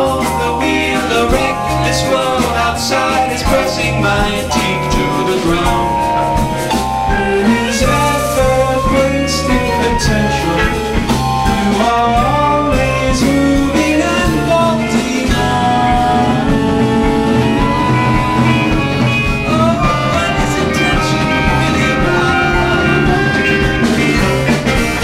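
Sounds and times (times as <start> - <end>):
bass guitar: 0.0 - 25.0
drums: 0.0 - 25.0
guitar: 0.0 - 25.0
melody line: 0.4 - 24.7.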